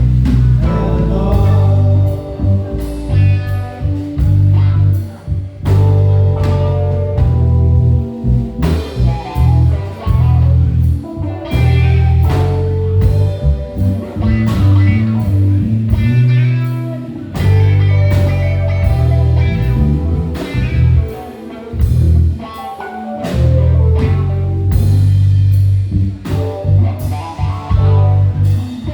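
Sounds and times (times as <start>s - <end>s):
band playing instrumental: 0.0s - 28.9s
drum kit hits: 0.0s - 28.9s
heavy bass line: 0.0s - 28.9s.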